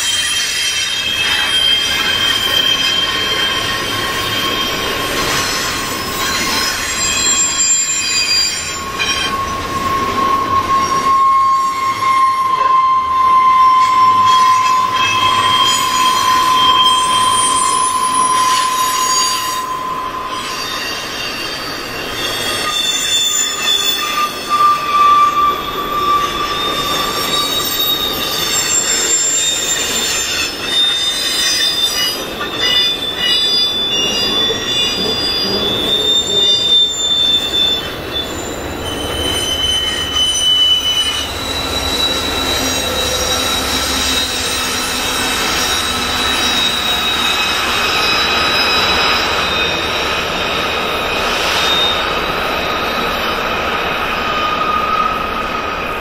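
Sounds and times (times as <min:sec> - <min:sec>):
train running noise: 0:00.0 - 0:56.0
train wheels squealing on rail: 0:00.0 - 0:56.0.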